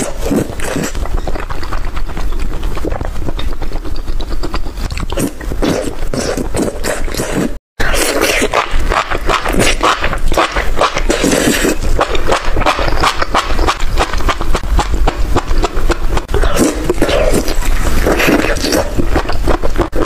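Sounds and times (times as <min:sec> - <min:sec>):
wet chewing and smacking: 0:00.0 - 0:20.0.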